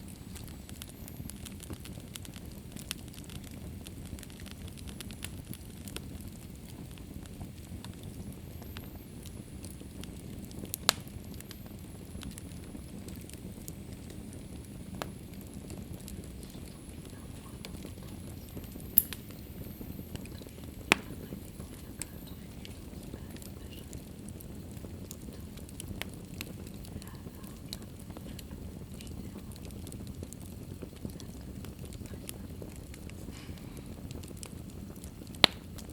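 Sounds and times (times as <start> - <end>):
fire crackles and pops: 0.0 - 35.9
low rumble of flames: 0.0 - 35.9.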